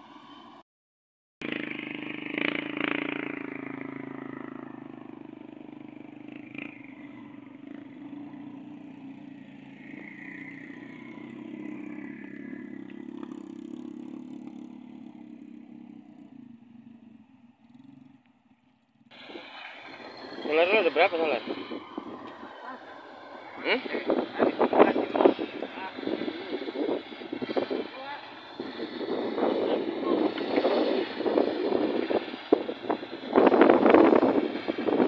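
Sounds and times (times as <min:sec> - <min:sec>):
engine running: 0:01.4 - 0:35.0.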